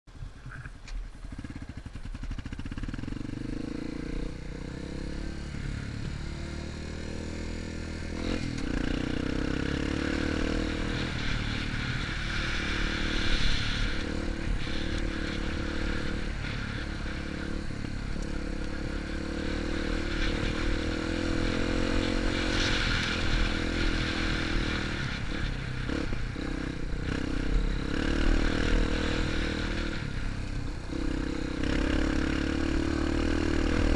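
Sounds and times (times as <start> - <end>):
motorcycle engine under load: 0.4 - 33.9.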